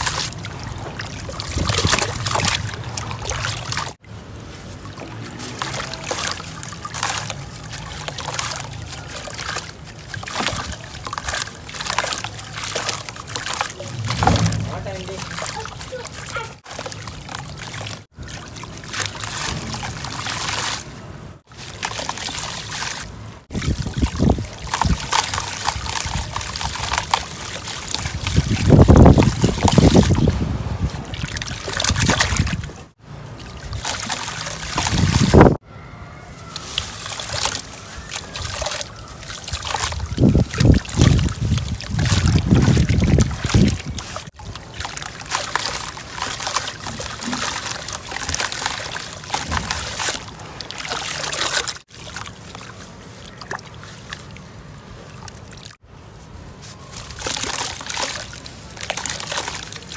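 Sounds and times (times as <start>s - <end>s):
water sloshing and trickling: 0.0s - 59.9s.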